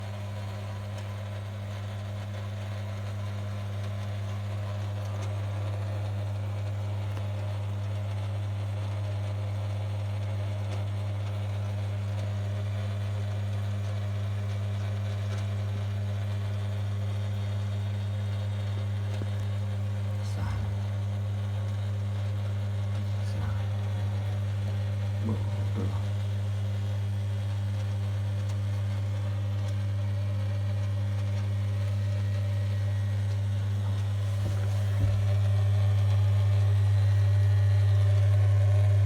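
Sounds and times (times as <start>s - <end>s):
dishwasher motor hum: 0.0s - 39.0s.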